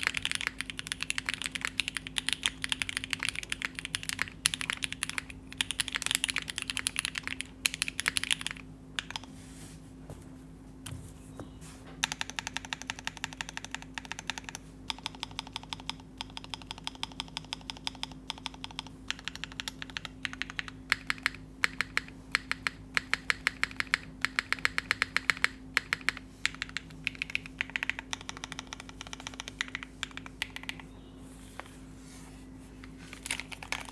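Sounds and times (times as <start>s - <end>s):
mechanical keyboard typing: 0.0s - 9.2s, 12.0s - 30.9s, 33.1s - 33.9s.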